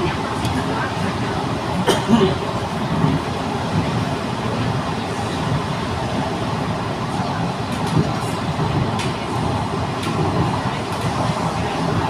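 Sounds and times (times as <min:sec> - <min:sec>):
metro train running: 0:00.0 - 0:12.0.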